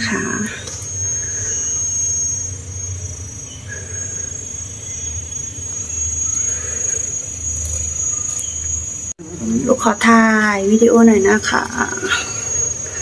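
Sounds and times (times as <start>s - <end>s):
insects droning: 0.0s - 13.0s
low wavering rumble: 0.0s - 13.0s.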